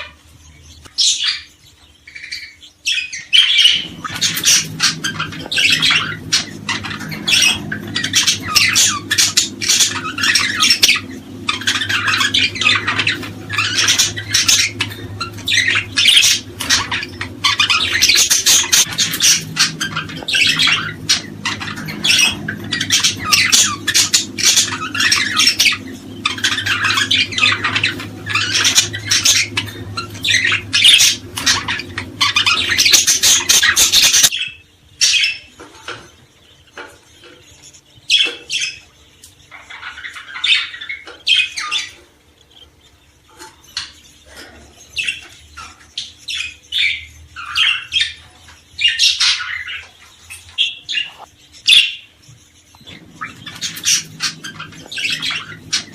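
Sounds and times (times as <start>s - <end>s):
songbirds chirping and squawking: 0.0s - 55.9s.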